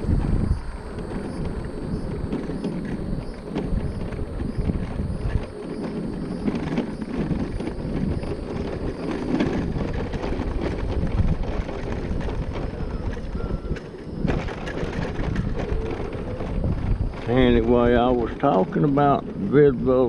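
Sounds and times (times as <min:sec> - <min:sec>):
small tyres rumbling on asphalt: 0:00.0 - 0:20.0
wind buffeting microphone: 0:00.0 - 0:20.0
knocks and rattles: 0:00.9 - 0:19.5.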